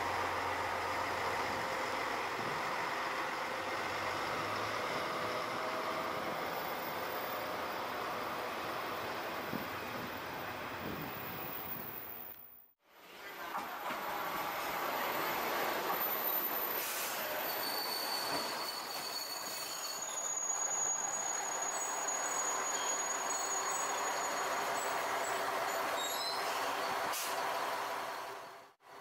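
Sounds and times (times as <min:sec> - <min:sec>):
diesel railcar running: 0:00.0 - 0:12.4, 0:13.2 - 0:29.0
brakes and wheels squealing: 0:00.0 - 0:12.6, 0:14.0 - 0:29.0.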